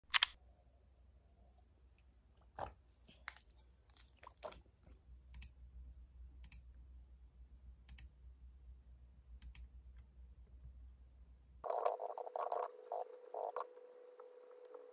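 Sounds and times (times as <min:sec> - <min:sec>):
faint low hum: 0:00.4 - 0:14.9.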